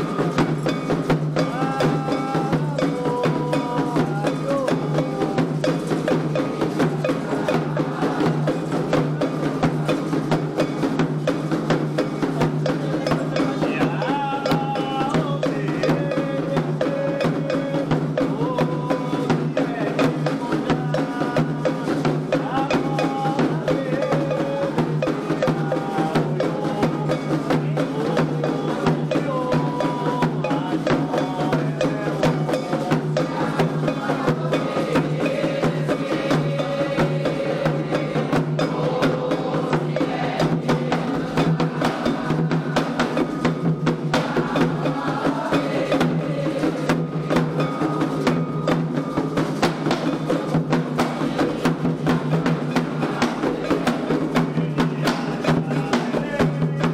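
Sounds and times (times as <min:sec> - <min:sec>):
hand drums: 0:00.0 - 0:56.9
voices singing: 0:00.0 - 0:56.9.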